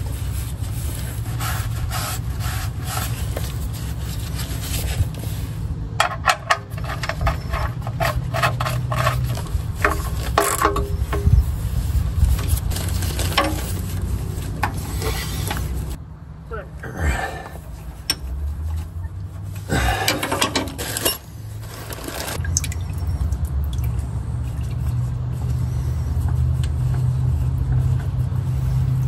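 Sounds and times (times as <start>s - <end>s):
oil filter rubbing and scraping: 0.0s - 16.0s, 17.5s - 29.0s.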